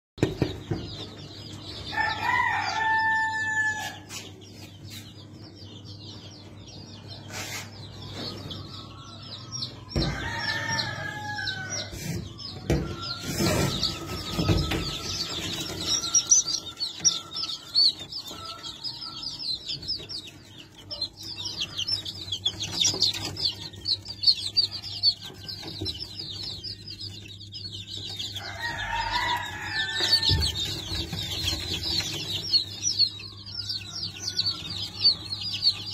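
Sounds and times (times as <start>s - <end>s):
chicks peeping: 0.2s - 35.9s.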